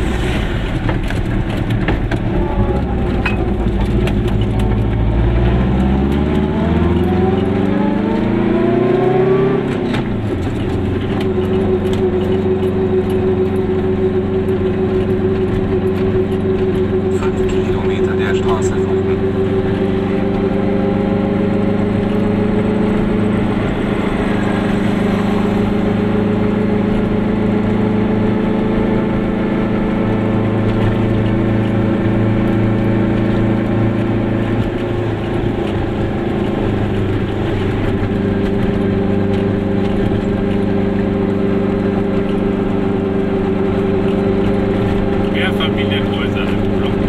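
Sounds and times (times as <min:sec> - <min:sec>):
small two-stroke car engine: 0:00.0 - 0:47.0.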